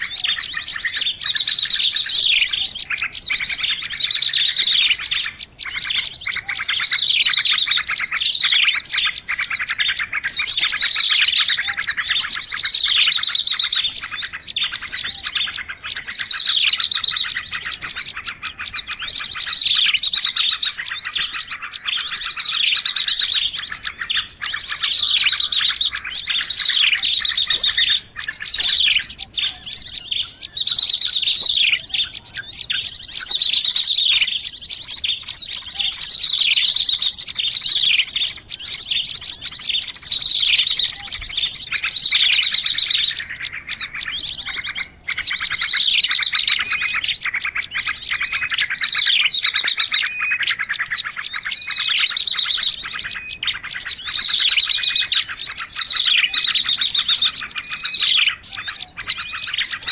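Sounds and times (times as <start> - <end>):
many small birds chirping: 0.0 - 59.9.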